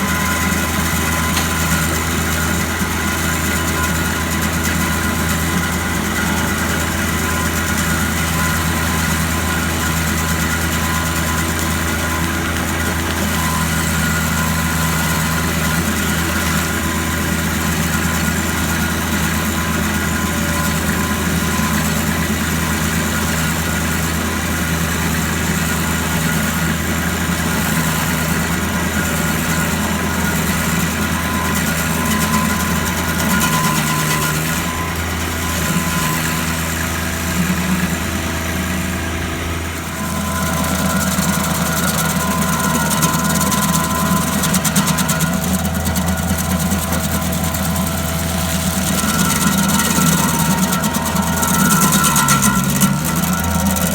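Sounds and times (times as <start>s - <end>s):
engine humming steadily: 0.0s - 53.9s.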